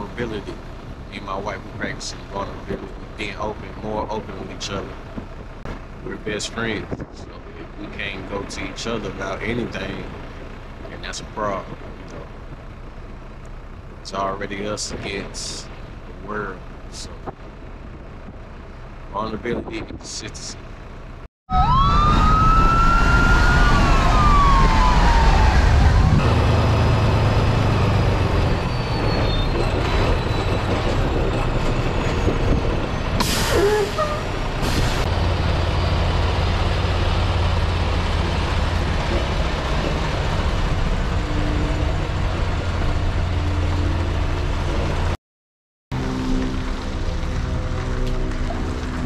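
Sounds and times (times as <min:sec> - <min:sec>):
pitched whine: 0:00.0 - 0:45.2, 0:45.9 - 0:49.0
truck engine and road rumble: 0:00.0 - 0:45.2, 0:45.9 - 0:49.0.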